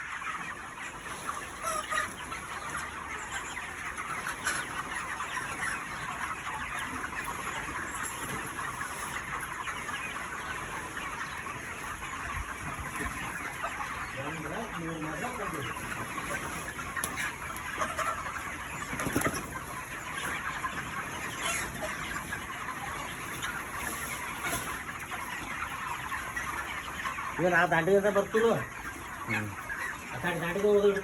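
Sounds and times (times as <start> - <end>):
flock of chickens clucking: 0.0 - 31.0
loud chicken calls: 0.0 - 31.0.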